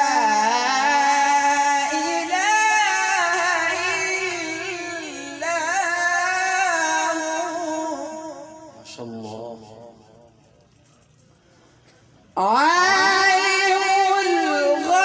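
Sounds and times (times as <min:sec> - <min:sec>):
man reciting melodically into microphone: 0:00.0 - 0:10.4, 0:12.4 - 0:15.0.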